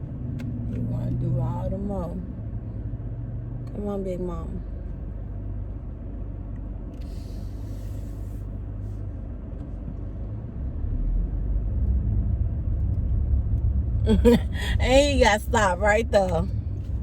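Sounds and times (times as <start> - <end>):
car rumble inside cabin: 0.0 - 17.0.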